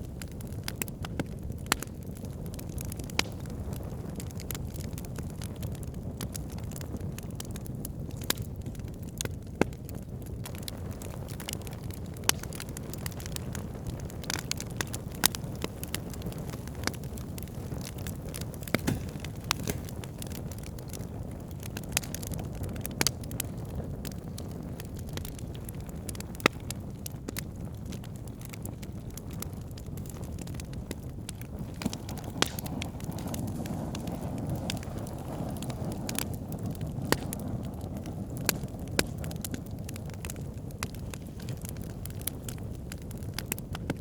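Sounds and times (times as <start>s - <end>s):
campfire flames rumbling: 0.0s - 44.0s
fire popping and crackling: 0.0s - 44.0s.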